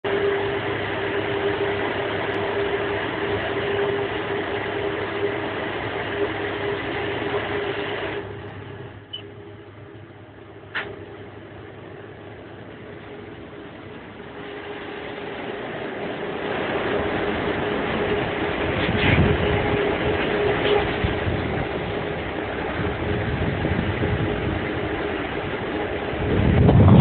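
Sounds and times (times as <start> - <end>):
electric train running hum: 0.0 - 27.0.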